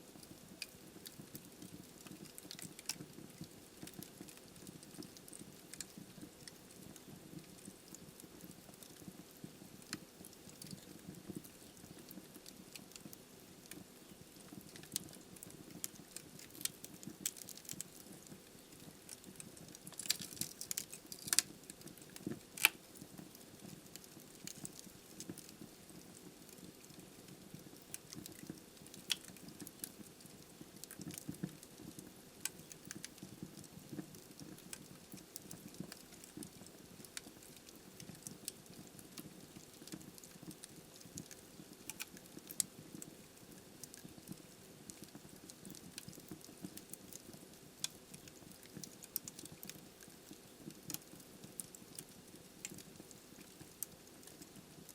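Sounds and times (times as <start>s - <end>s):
logs crackling and popping: 0.1s - 54.9s.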